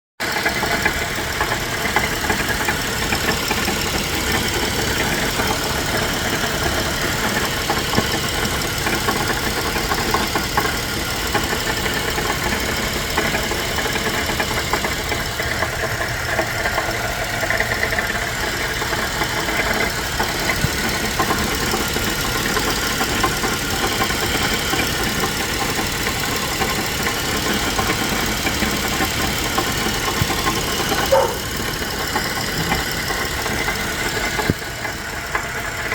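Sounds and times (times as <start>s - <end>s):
engine running with rapid knocking: 0.2s - 35.9s.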